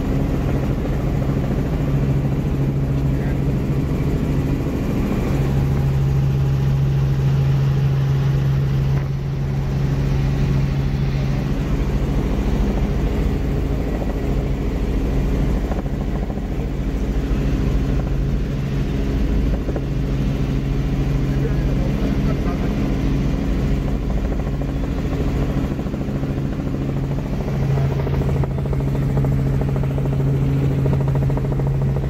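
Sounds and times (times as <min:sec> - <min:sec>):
helicopter engine and rotor drone: 0:00.0 - 0:32.0.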